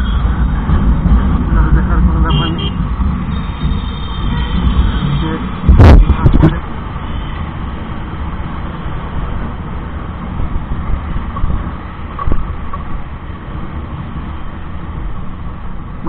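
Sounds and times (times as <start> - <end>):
motorcycle engine and road rumble: 0.0 - 16.0
wind buffeting microphone: 0.0 - 16.0.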